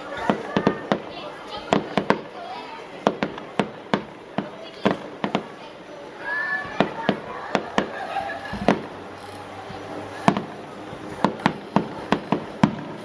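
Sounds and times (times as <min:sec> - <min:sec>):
firework shells bursting: 0:00.0 - 0:05.6, 0:06.6 - 0:13.0.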